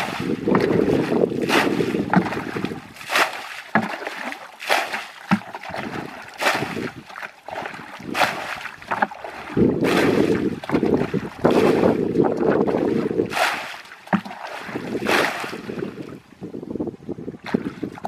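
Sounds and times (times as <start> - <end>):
bucket scooping water: 0.0 - 16.3, 17.4 - 18.0
muddy water sloshing and splashing: 0.0 - 16.3, 17.3 - 18.0.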